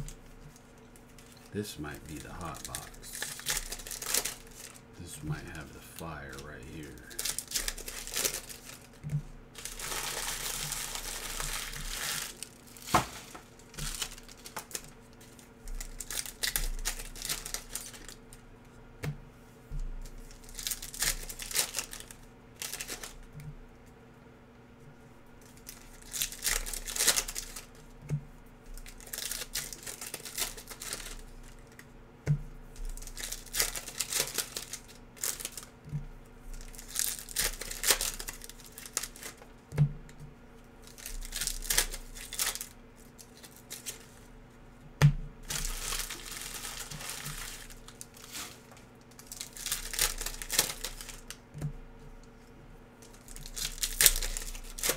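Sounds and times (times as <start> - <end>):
plastic wrapping tearing and crinkling: 0.0 - 18.4, 20.0 - 23.3, 25.4 - 28.0, 28.7 - 31.9, 32.7 - 39.6, 40.8 - 44.3, 45.4 - 51.4, 53.0 - 54.9.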